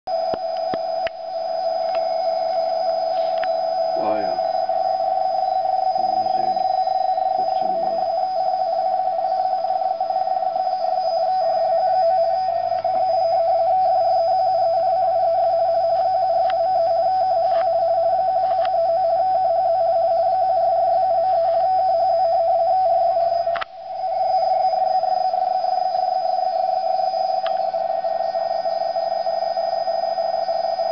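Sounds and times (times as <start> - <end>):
faint high whine: 0.1 - 30.9
steady data tone: 0.1 - 30.9.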